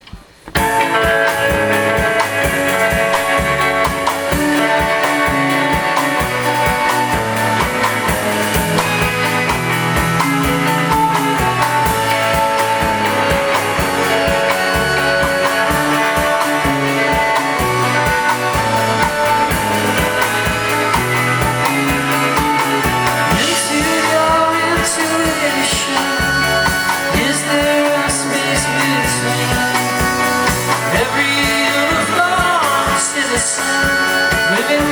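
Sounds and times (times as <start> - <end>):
live rock band playing: 0.1 - 34.9
drum beat: 0.6 - 34.9.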